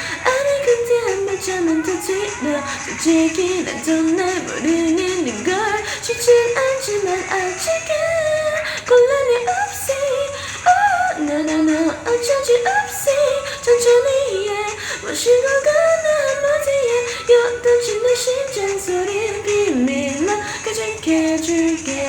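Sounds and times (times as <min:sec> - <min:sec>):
person singing: 0:00.0 - 0:22.0
pop backing track with beat: 0:00.0 - 0:22.0.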